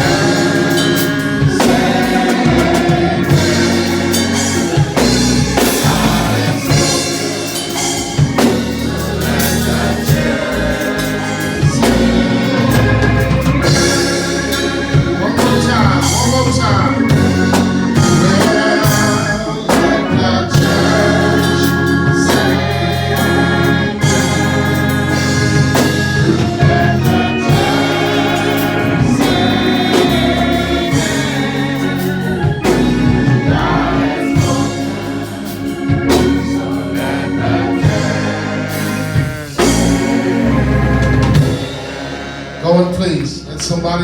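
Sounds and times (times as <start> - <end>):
band with bass and drums: 0.0 - 44.0
choir singing gospel: 0.0 - 44.0.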